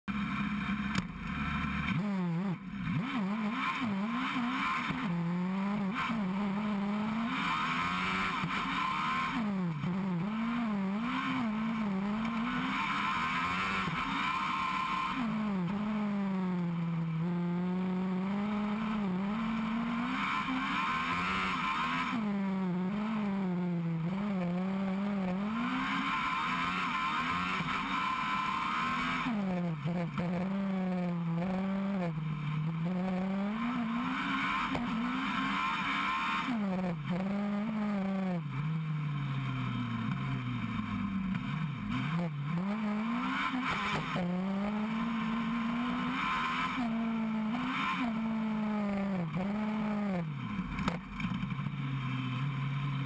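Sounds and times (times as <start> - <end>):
race car engine revving: 0.2 - 51.7.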